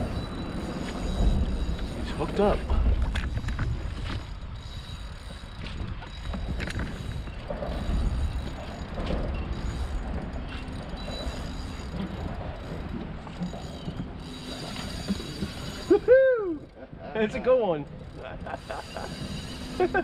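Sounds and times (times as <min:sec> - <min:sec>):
wind rumble on microphone: 0:00.0 - 0:17.1.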